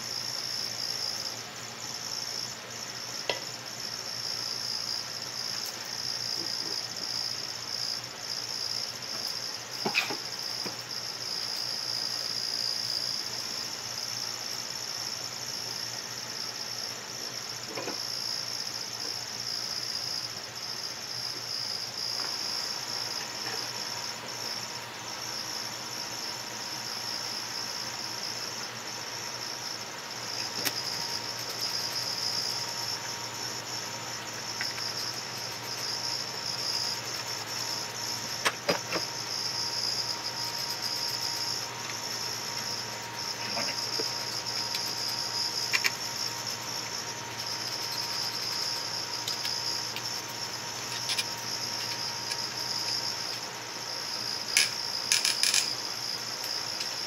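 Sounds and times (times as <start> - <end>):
high-pitched cricket trill: 0.0 - 57.0.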